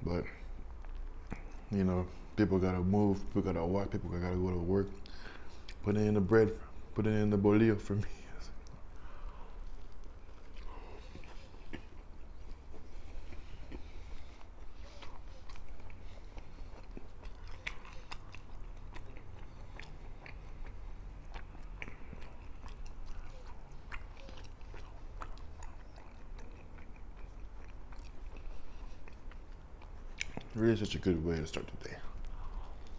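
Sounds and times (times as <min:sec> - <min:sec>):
chewing and biting crunchy food: 0:00.2 - 0:32.9.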